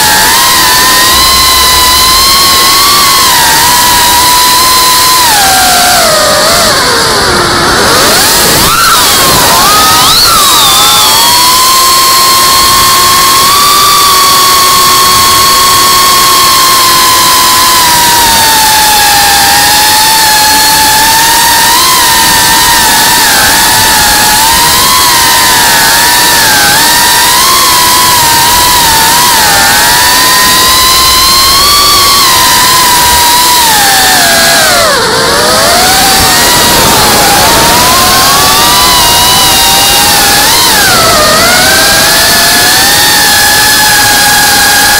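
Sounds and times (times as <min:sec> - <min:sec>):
drone motors whining: 0:00.0 - 0:44.9
wind noise: 0:00.0 - 0:44.9.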